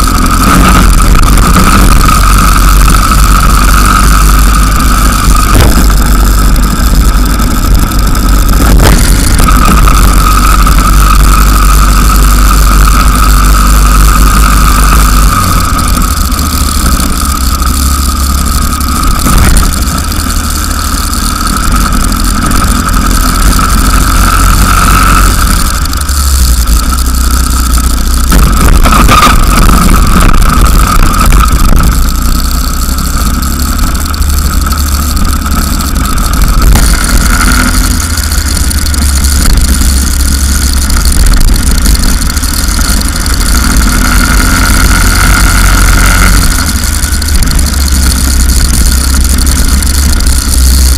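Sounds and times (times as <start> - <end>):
go-kart engine at speed: 0.0 - 50.9.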